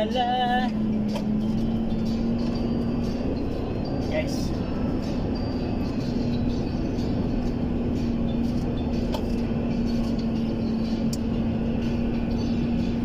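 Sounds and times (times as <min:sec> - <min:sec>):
truck engine rumble inside cab: 0:00.0 - 0:13.0.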